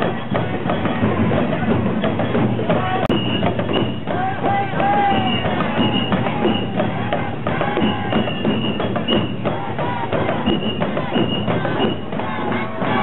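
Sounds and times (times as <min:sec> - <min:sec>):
fan drums beaten fast: 0:00.0 - 0:13.0
high bamboo flute: 0:00.0 - 0:13.0.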